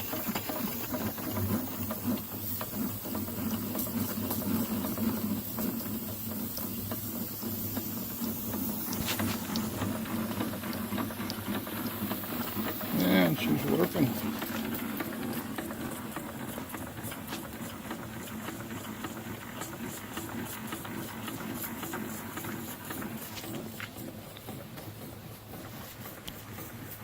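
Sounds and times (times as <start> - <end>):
steam engine ticking clatter: 0.0 - 27.0
steam hiss: 0.0 - 27.0.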